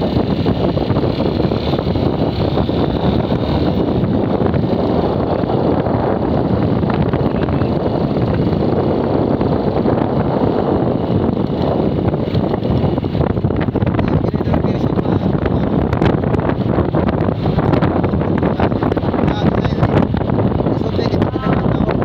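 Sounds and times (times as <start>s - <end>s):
motorcycle engine hum: 0.0s - 22.0s
road noise: 0.0s - 22.0s
wind rushing over microphone: 0.0s - 22.0s.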